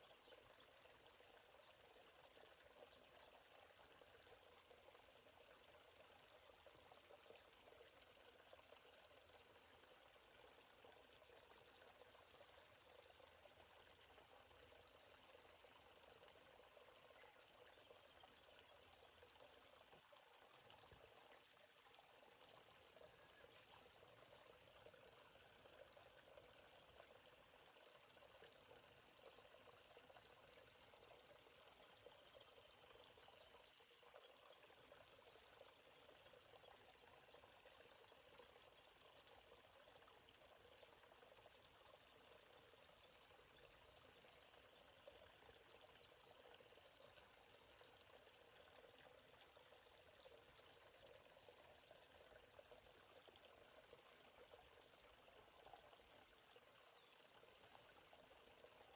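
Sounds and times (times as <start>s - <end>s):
insects chirping chorus: 0.0s - 58.9s
stream water trickling: 0.0s - 58.9s.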